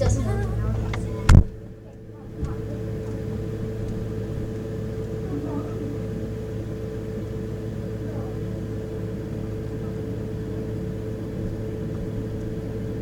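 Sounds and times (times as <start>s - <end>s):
freezer humming: 0.0s - 13.0s.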